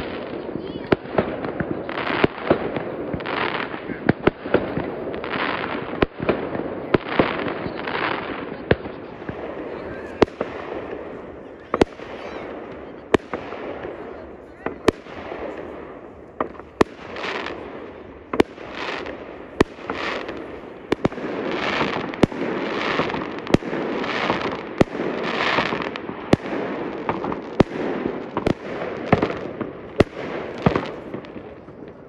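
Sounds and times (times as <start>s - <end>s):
fireworks bangs: 0.0s - 32.0s
fireworks crackling hiss: 0.0s - 32.0s.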